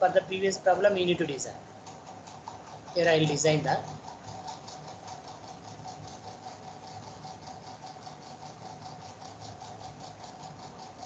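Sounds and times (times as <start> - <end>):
faint constant whine: 0.0 - 11.0
rapid even ticking: 0.0 - 11.0.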